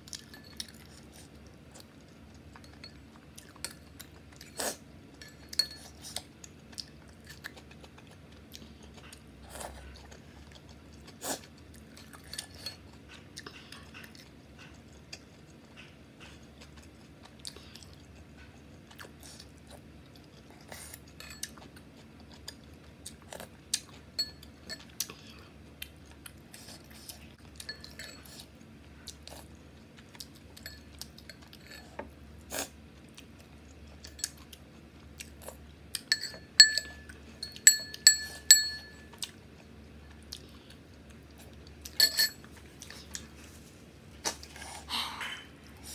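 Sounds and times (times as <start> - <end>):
chewing: 0.0 - 45.9.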